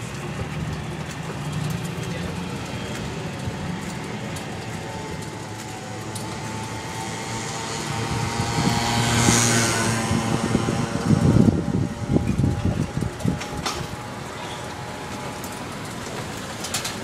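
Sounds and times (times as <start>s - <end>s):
passing engine: 0.0s - 17.0s
street traffic noise: 0.0s - 17.0s.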